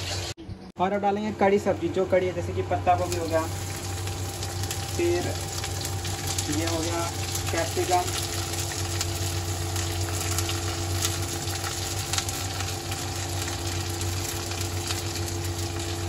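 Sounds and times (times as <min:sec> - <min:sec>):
vegetables sizzling in hot oil: 0:00.0 - 0:00.4, 0:02.8 - 0:16.0
steady low hum: 0:00.3 - 0:16.0.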